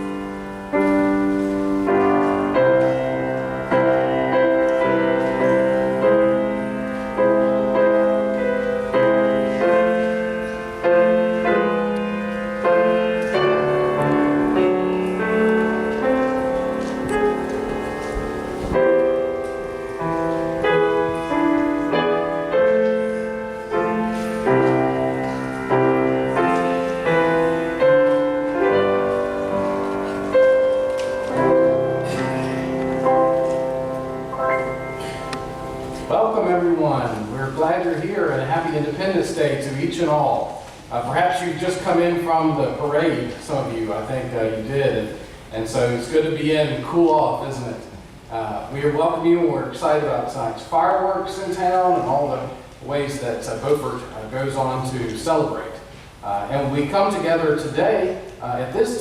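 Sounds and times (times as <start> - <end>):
slow piano piece: 0.0 - 59.0.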